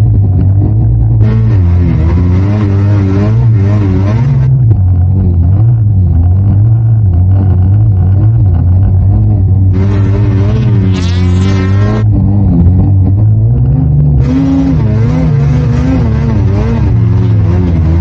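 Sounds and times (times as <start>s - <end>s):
snowmobile engine under load: 0.0s - 18.0s.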